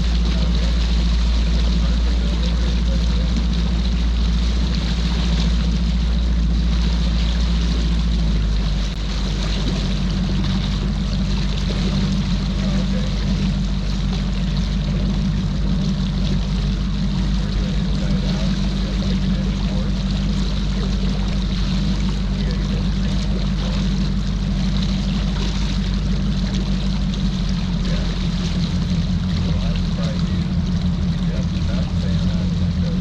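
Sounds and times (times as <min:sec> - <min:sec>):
outboard motor droning: 0:00.0 - 0:33.0.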